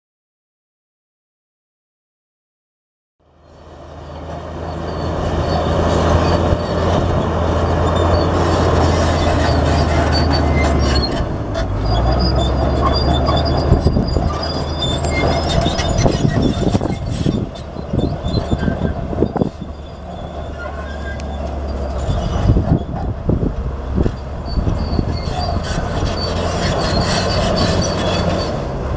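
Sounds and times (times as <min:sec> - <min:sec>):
bulldozer diesel engine: 0:03.2 - 0:28.9
steel tracks squealing and clanking: 0:03.4 - 0:28.9.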